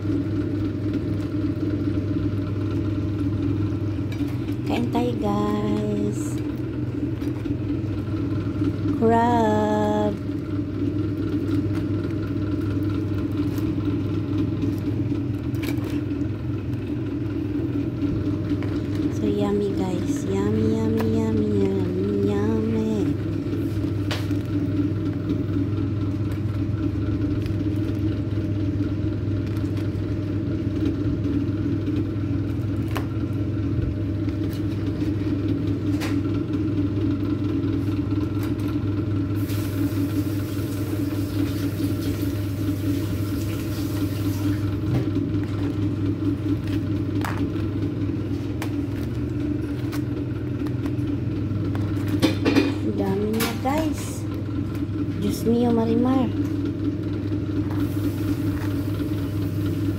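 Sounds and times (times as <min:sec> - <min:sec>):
appliance humming: 0:00.0 - 0:59.9.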